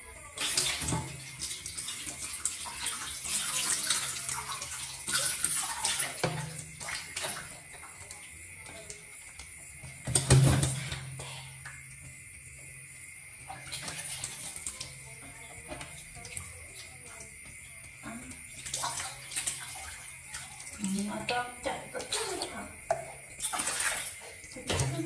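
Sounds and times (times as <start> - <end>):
water splashing into metal basin: 0.0 - 25.0.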